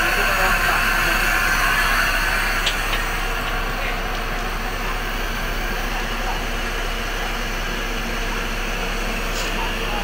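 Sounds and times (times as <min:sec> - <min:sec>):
mechanical running hum: 0:00.0 - 0:10.0.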